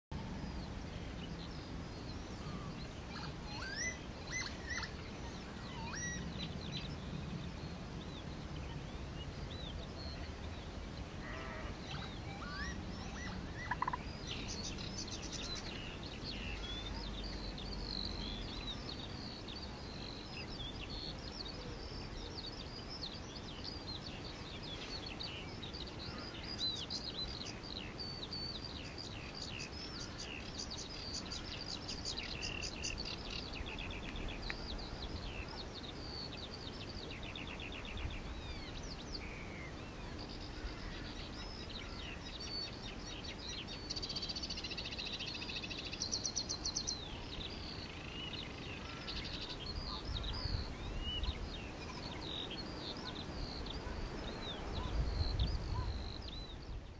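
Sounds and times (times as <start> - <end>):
songbirds singing: 0.1 - 56.9
low background hiss: 0.2 - 56.9.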